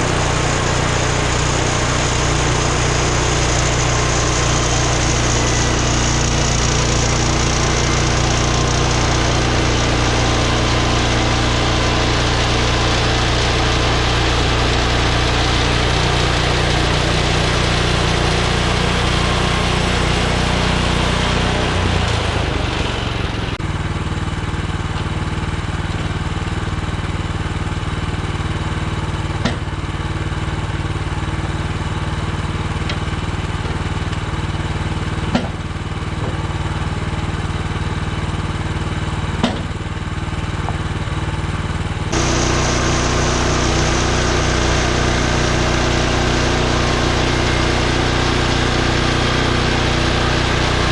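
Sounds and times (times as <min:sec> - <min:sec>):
gas engine running: 0:00.0 - 0:50.9.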